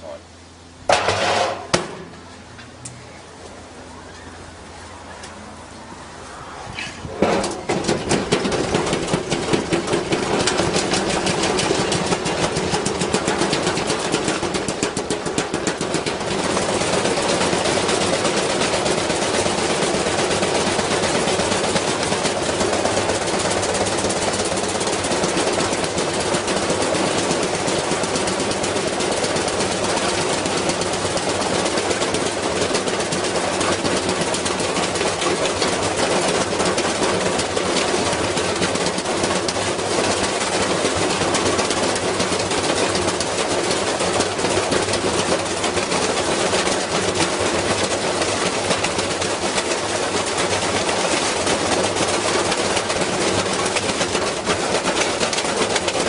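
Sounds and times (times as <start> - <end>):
washing machine rattling and banging: 0.8 - 2.3, 7.0 - 56.0.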